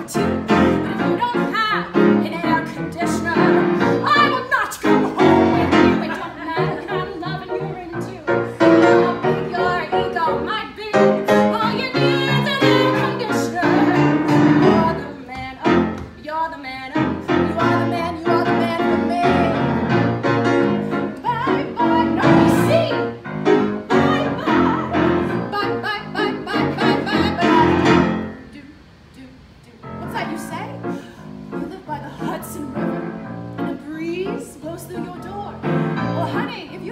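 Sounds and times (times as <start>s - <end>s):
woman singing: 0.0s - 20.1s, 20.7s - 23.2s, 23.8s - 36.9s
grand piano accompaniment: 0.0s - 28.6s, 29.8s - 36.9s.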